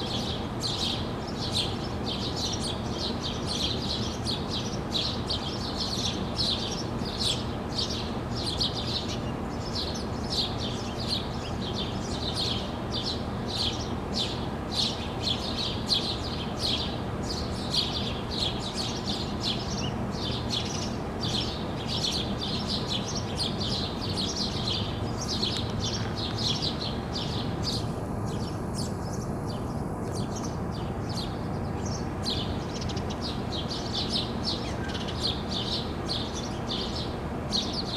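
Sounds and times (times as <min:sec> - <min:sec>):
low background hum: 0:00.0 - 0:37.9
small birds chirping: 0:00.0 - 0:37.9.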